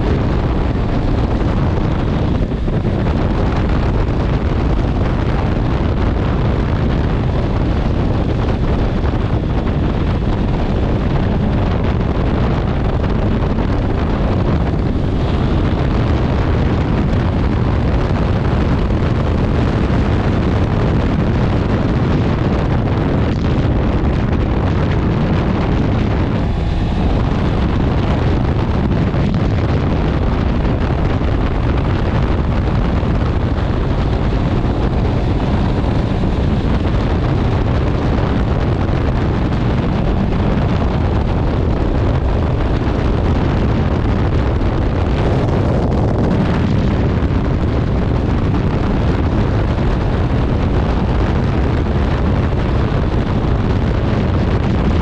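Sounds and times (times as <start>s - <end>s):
wind rush over microphone: 0.0s - 55.0s.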